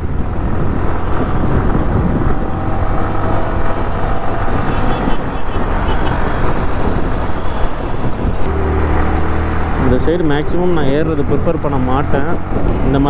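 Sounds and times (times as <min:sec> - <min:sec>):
motorcycle engine drone: 0:00.0 - 0:13.0
wind and road noise: 0:00.0 - 0:13.0.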